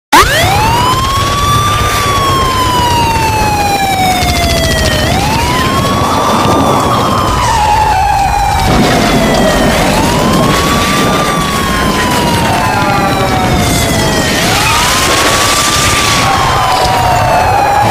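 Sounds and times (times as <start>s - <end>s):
alarm siren wailing: 0.1s - 17.9s.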